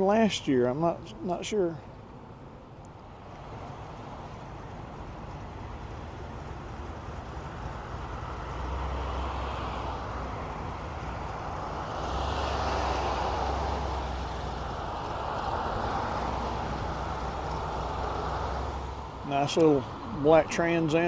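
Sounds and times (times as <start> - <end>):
low engine rumble: 0.0 - 21.0
traffic roar: 0.0 - 21.0.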